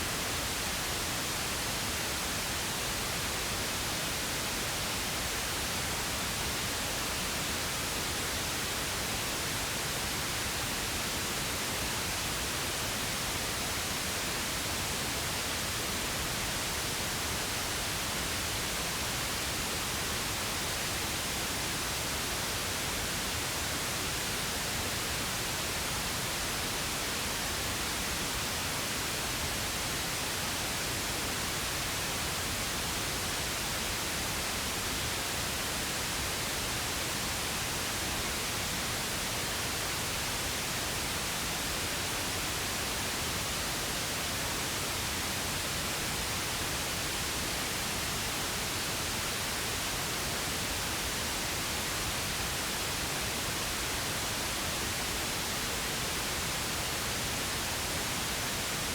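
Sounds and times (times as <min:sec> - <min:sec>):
pink noise hiss: 0:00.0 - 0:58.9.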